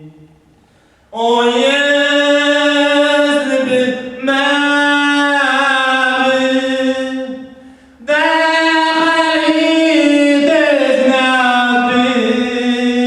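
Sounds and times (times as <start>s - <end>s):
person singing long notes: 0.0s - 0.5s, 1.2s - 13.0s.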